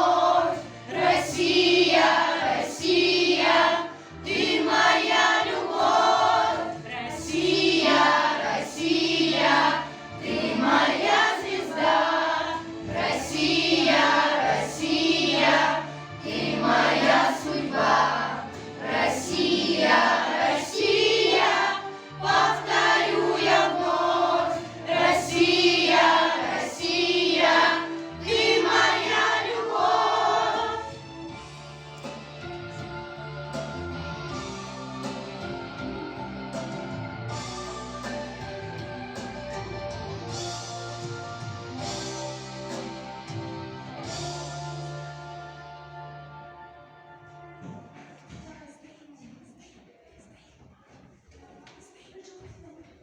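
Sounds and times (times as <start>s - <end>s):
instrumental backing track: 0.0s - 48.0s
children's choir singing: 0.0s - 52.0s.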